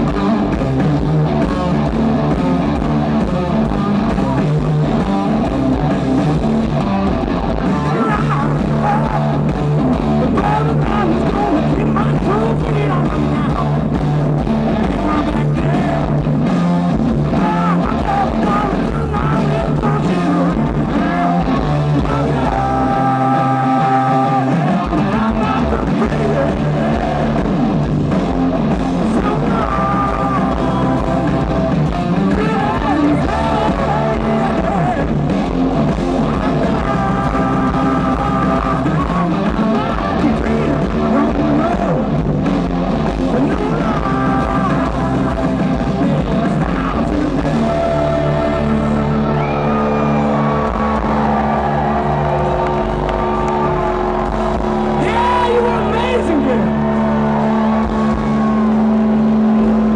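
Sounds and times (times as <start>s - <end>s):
bass guitar: 0.0s - 59.9s
distorted electric guitars: 0.0s - 59.9s
drums: 0.0s - 59.9s
keyboard: 0.0s - 59.9s.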